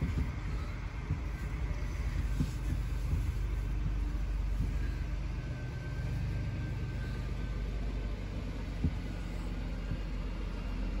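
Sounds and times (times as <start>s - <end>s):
lorry diesel engine rumbling: 0.0s - 11.0s.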